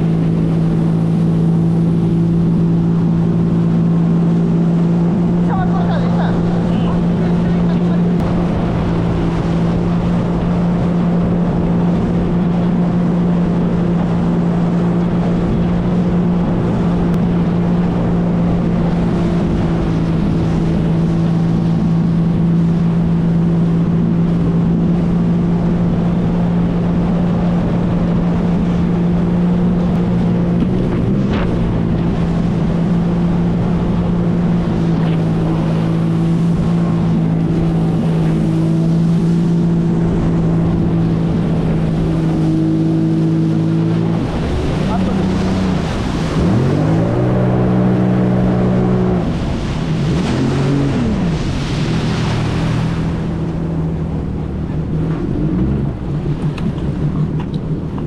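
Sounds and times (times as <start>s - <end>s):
jet ski engine drone: 0.0s - 58.0s
water rushing: 0.0s - 58.0s
wind on microphone: 0.0s - 58.0s.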